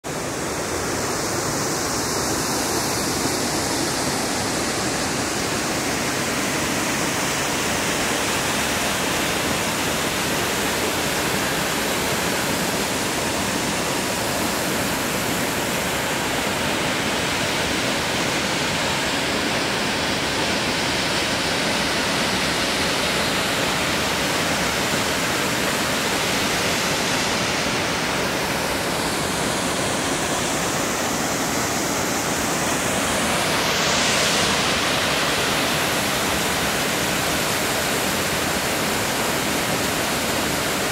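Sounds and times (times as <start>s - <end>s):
waterfall rushing water: 0.0s - 40.9s.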